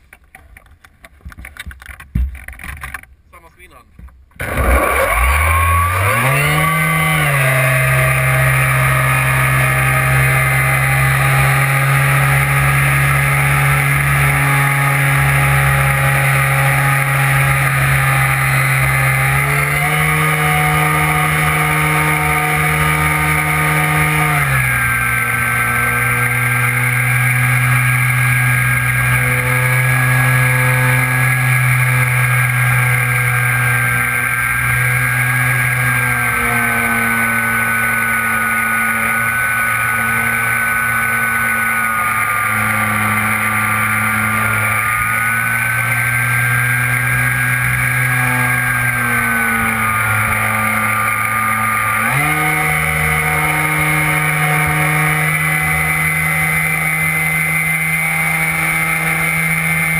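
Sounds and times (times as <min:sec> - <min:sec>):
electric motor and propeller whine: 0:04.4 - 0:59.9.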